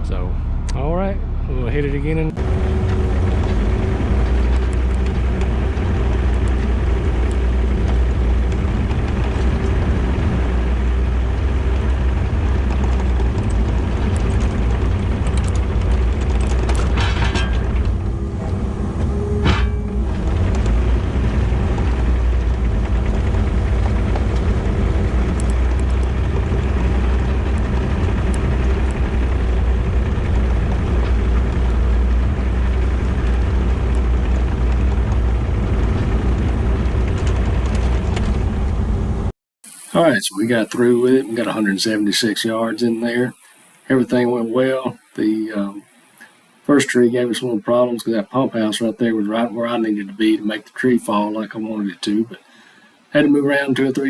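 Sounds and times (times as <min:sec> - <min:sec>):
excavator diesel engine rumble: 0:00.0 - 0:46.0.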